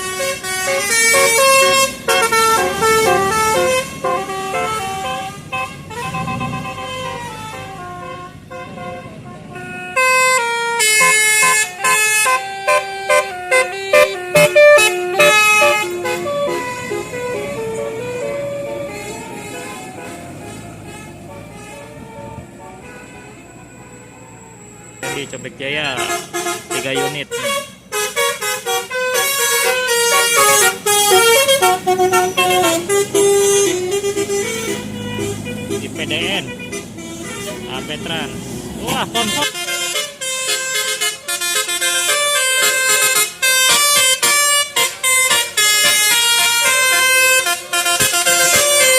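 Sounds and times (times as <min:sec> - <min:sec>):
musical air horn playing a tune: 0:00.0 - 0:24.1, 0:25.9 - 0:48.9.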